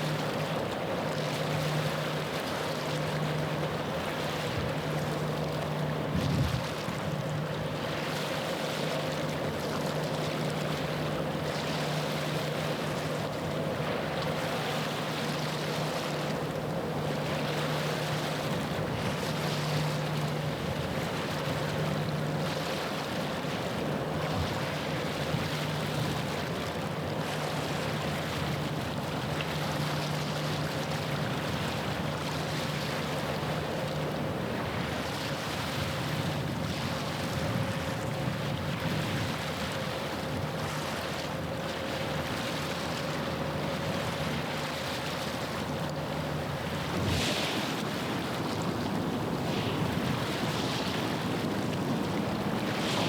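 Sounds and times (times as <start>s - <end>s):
wind: 0.0s - 53.0s.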